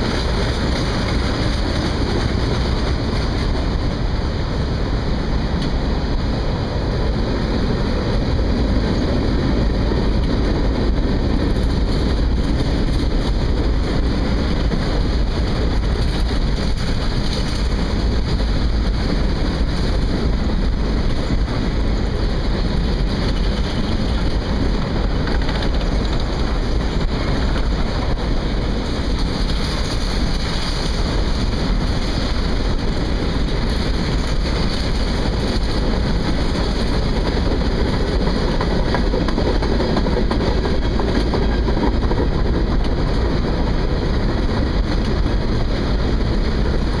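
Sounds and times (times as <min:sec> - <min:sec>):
train wheels rumbling on rails: 0:00.0 - 0:47.0
wind noise on microphone: 0:00.0 - 0:47.0.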